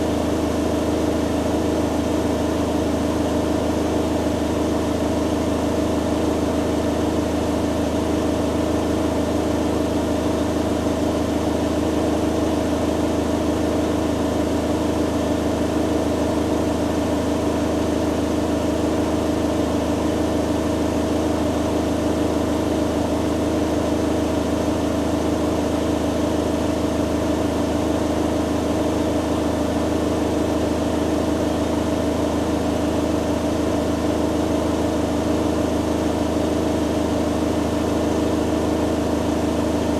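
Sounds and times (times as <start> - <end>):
washing machine spin cycle: 0.0 - 39.9.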